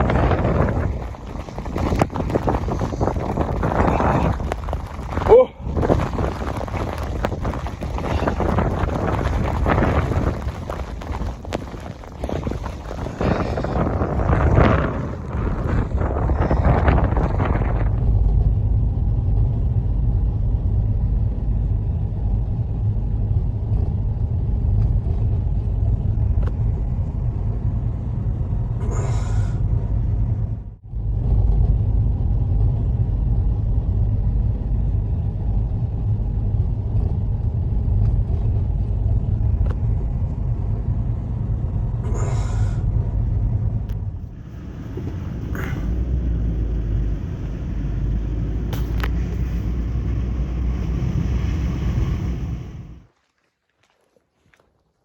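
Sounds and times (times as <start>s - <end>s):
wind buffeting microphone: 0.0s - 53.1s.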